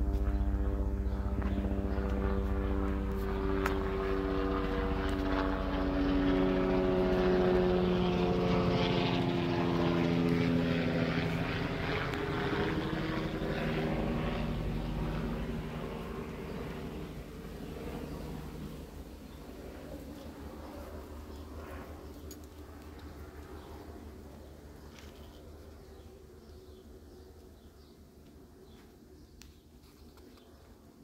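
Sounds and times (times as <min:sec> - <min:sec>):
propeller airplane engine drone: 0:00.0 - 0:31.0.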